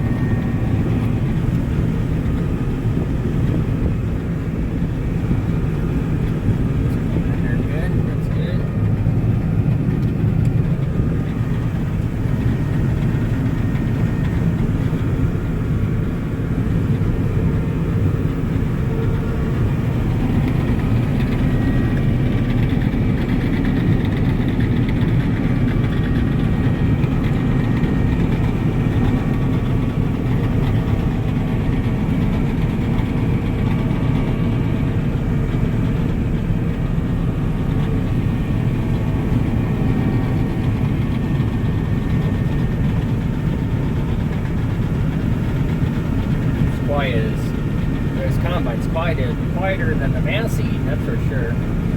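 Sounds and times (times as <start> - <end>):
combine harvester engine droning: 0.0 - 51.9.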